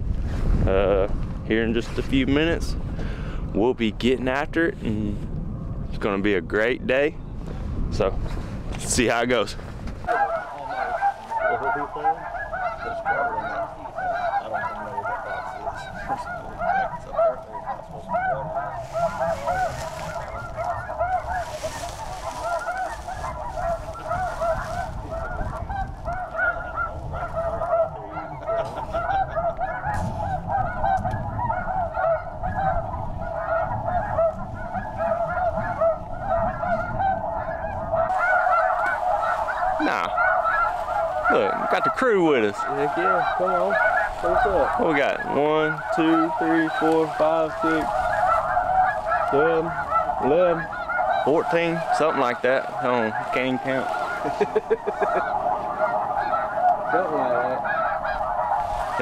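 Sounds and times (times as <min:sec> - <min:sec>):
snow geese honking: 0:08.7 - 0:59.0.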